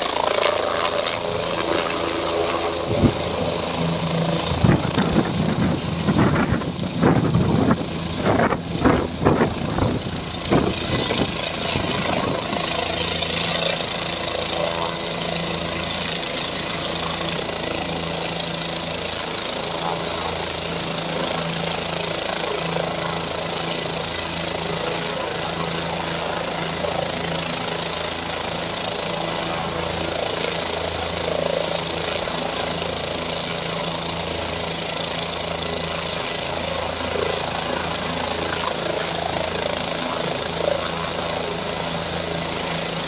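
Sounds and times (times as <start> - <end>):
helicopter engine and rotor hum: 0.0 - 43.0.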